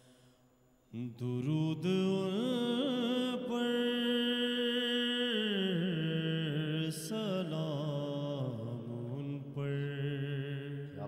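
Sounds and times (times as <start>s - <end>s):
man singing into a microphone: 0.9s - 11.0s.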